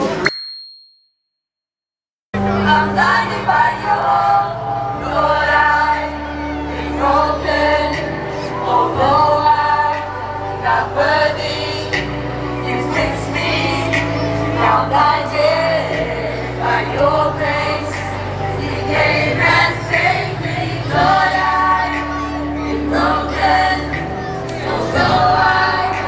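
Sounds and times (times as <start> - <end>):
group of singers singing: 2.4 - 26.0.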